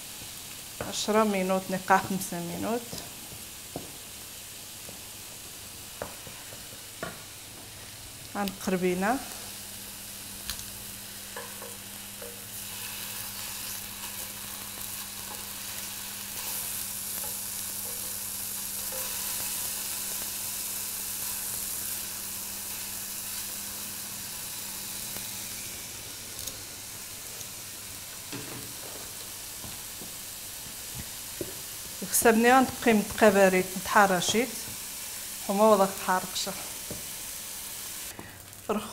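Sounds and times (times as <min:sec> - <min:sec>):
chicken sizzling on a griddle: 0:00.0 - 0:38.7.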